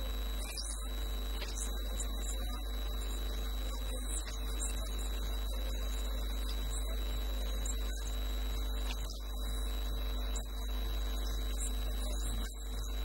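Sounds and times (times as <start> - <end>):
electrical mains hum: 0.0 - 13.0
thin high whine: 0.0 - 13.0.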